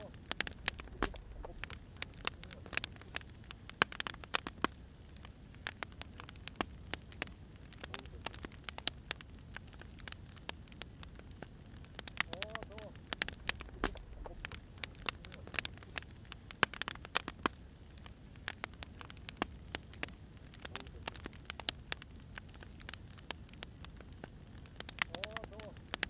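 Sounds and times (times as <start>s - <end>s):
firewood crackling and popping: 0.0s - 26.0s.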